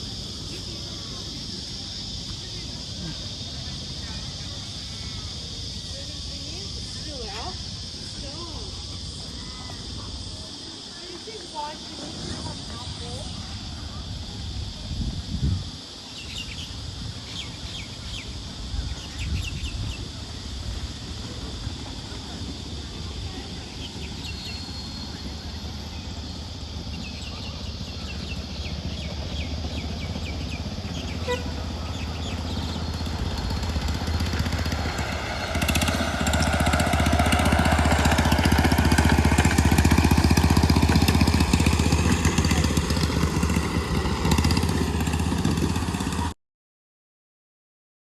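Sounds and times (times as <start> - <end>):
vehicle engine running: 0.0 - 46.4.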